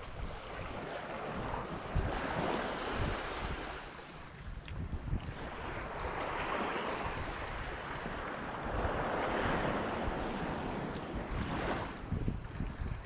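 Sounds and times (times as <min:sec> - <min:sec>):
small waves washing on shore: 0:00.0 - 0:13.0
wind buffeting microphone: 0:00.0 - 0:13.0.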